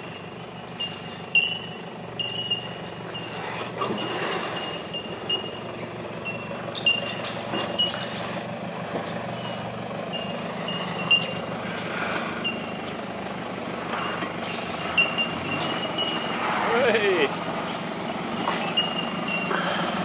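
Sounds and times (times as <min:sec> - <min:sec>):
diesel engine at low revs: 0:00.0 - 0:20.0
suspension knocks over ruts: 0:00.5 - 0:20.0.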